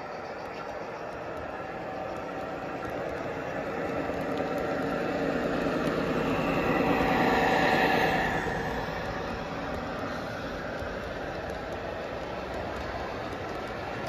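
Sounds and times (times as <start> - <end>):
model train rolling past: 0.0 - 14.0.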